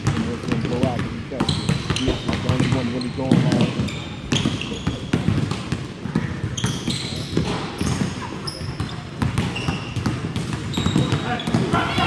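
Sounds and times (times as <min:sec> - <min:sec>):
basketballs bouncing on wooden floor: 0:00.0 - 0:12.0
sneaker squeaks: 0:00.0 - 0:12.0.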